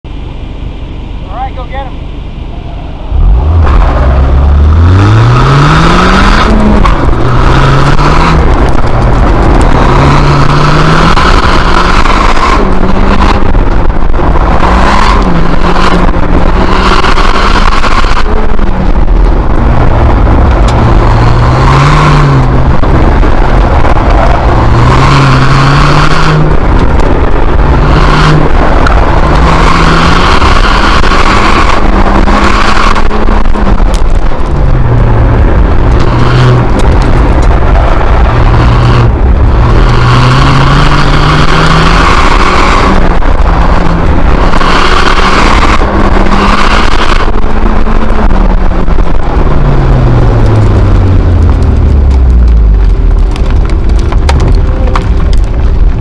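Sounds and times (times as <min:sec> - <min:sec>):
car engine revving: 0:00.1 - 0:56.0.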